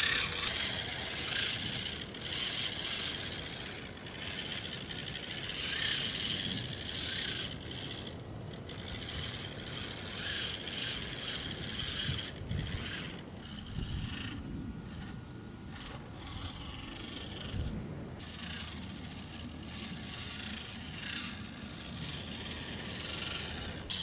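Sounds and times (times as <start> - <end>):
electric motor whining in surges: 0.0 - 24.0.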